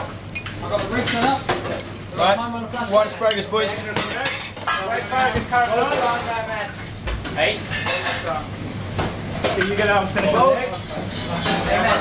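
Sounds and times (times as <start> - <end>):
stove sizzle: 0.0 - 12.0.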